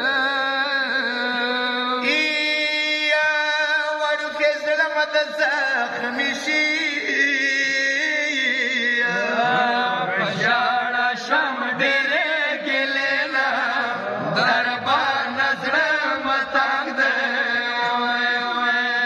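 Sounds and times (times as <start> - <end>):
man chanting a lament: 0.0 - 19.0.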